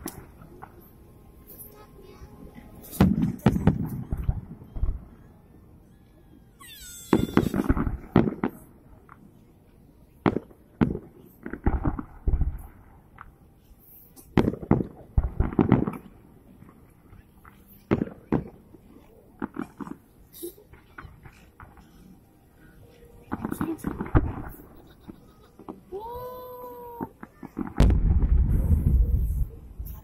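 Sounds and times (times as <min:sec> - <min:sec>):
fireworks bursting with sharp bangs: 0:00.0 - 0:05.2, 0:06.6 - 0:09.4, 0:10.1 - 0:30.0.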